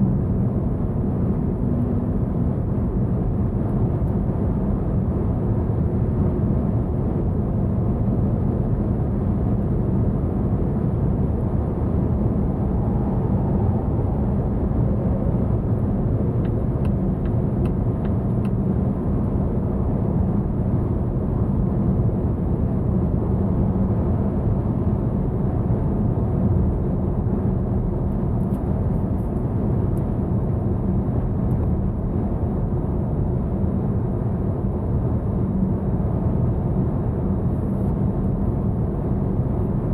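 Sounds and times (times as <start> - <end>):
wind noise inside car: 0.0 - 39.9.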